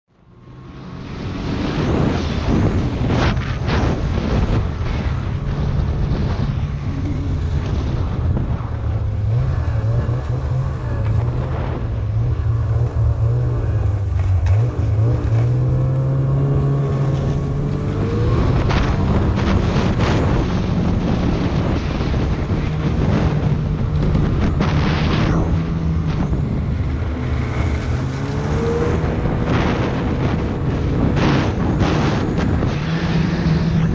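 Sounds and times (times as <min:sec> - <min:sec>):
wind gusts on microphone: 0:00.3 - 0:33.9
snowmobile engine running: 0:01.0 - 0:33.9.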